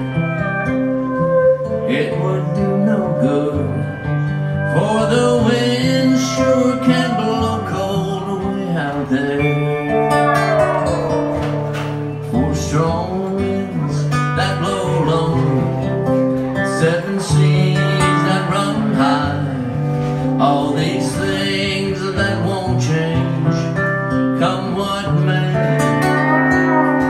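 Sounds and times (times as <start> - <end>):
pedal steel guitar melody: 0.0 - 27.0
strummed acoustic guitar: 0.0 - 27.0.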